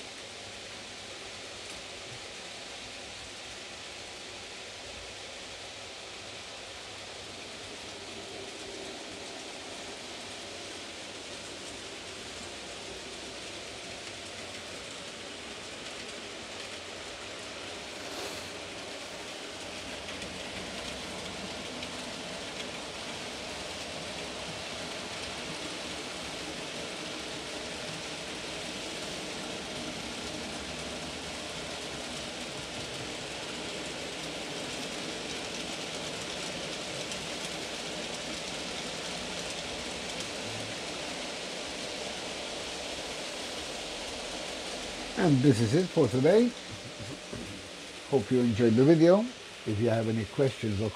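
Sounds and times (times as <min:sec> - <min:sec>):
model train wheels rolling on track: 0:00.0 - 0:50.9.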